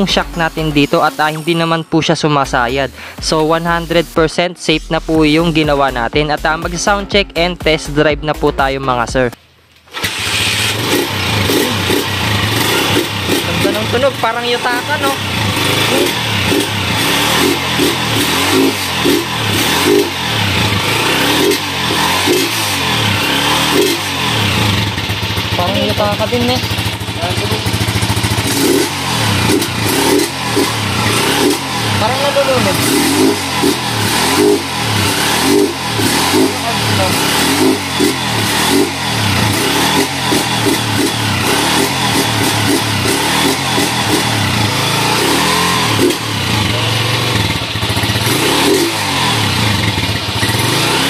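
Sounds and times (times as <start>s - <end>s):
motorcycle engine revving: 0.0s - 4.2s, 9.9s - 51.0s.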